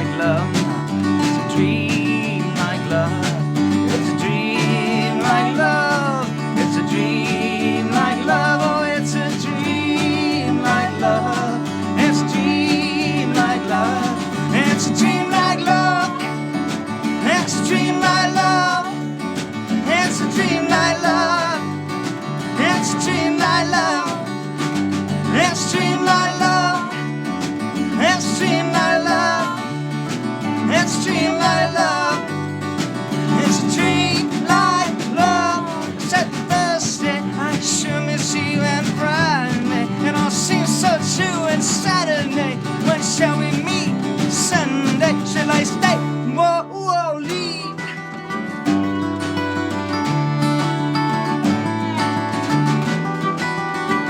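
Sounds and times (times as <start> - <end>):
live band playing: 0.0 - 46.2, 47.8 - 54.0
person singing: 0.0 - 48.0
guitar: 0.0 - 54.0.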